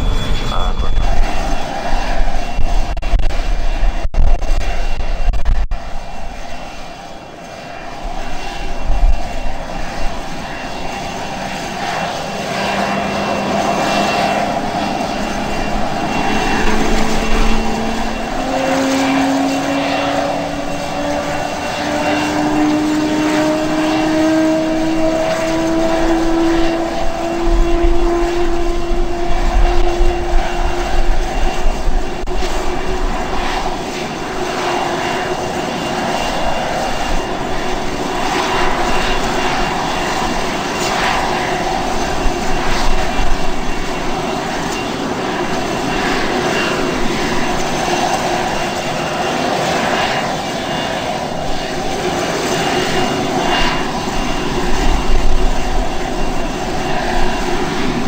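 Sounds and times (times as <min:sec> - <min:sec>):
aircraft engine whining: 0:00.0 - 0:58.0.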